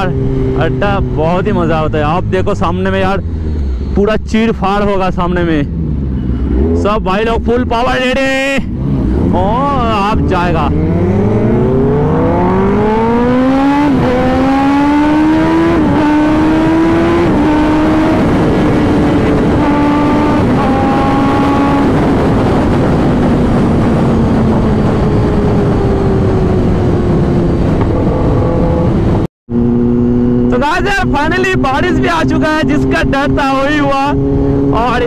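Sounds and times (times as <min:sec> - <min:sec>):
heavy wind rush: 0:00.0 - 0:35.0
motorcycle engine accelerating: 0:00.0 - 0:35.0.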